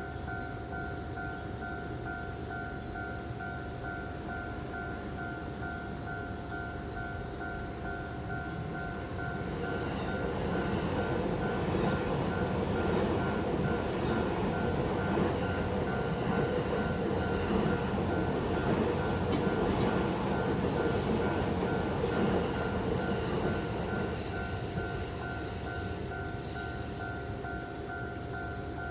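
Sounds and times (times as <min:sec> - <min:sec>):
level crossing warning bell: 0:00.0 - 0:28.9
train passing: 0:00.0 - 0:28.9
train wheels squealing: 0:00.0 - 0:28.9.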